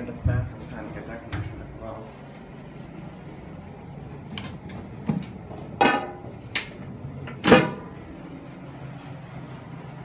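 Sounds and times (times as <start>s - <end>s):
exhaust fan humming: 0.0s - 10.0s.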